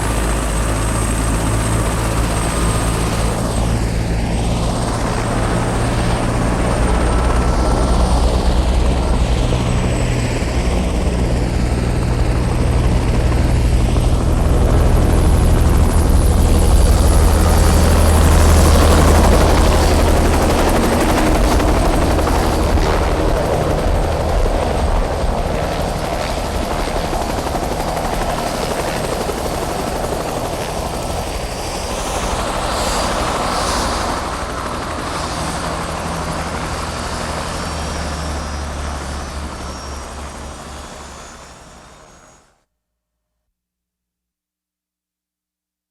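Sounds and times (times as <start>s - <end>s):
helicopter rotor and engine: 0.0s - 42.6s.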